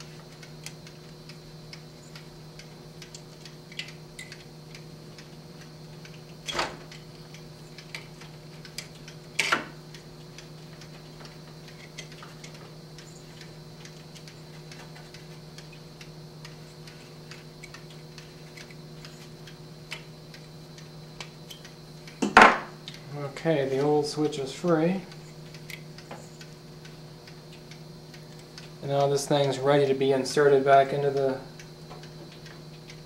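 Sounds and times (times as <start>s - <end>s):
charger timer ticking: 0.0s - 22.2s, 22.8s - 33.0s.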